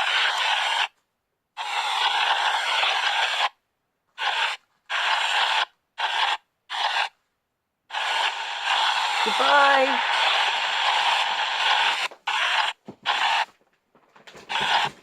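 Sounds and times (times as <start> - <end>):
radio static hissing bursts: 0.0 - 0.9, 1.6 - 3.6, 4.2 - 7.2, 7.9 - 13.5, 14.4 - 15.0.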